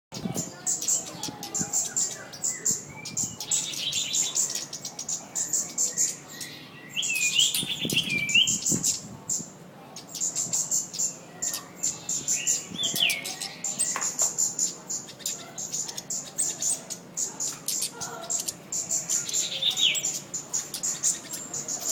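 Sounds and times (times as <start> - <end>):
bird singing rapid high chirps: 0.1 - 21.9.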